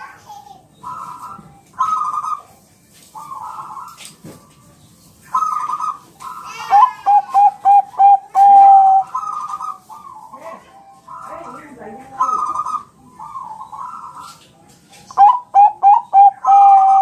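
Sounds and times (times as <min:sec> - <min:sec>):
doves cooing: 0:00.6 - 0:04.6, 0:05.2 - 0:14.5, 0:15.1 - 0:17.0.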